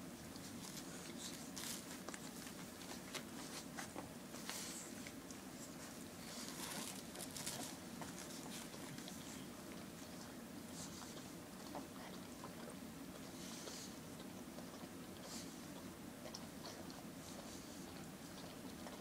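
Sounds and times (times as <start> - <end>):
low steady hum: 0.0 - 19.0
puppies nursing clicks and rustles: 0.0 - 19.0.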